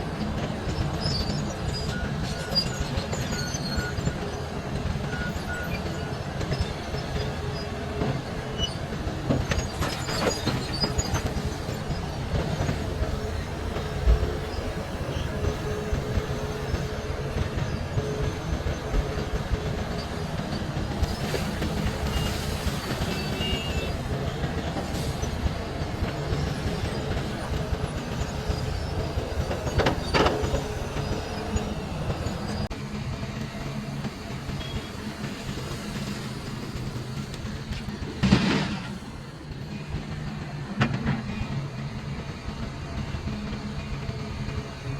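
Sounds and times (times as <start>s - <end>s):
excavator diesel rumble: 0.0s - 44.9s.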